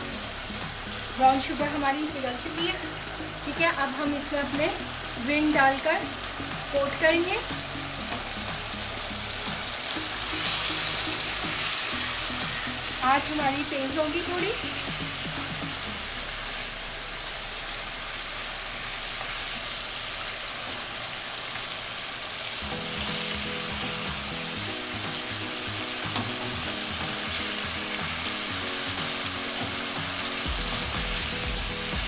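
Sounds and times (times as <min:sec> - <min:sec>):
background music: 0:00.0 - 0:17.2, 0:22.6 - 0:32.0
chicken wings sizzling in a pan: 0:00.0 - 0:32.0.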